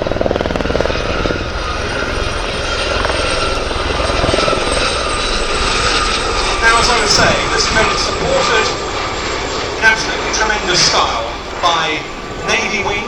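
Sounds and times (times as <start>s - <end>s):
helicopter rotor chop: 0.0s - 13.0s.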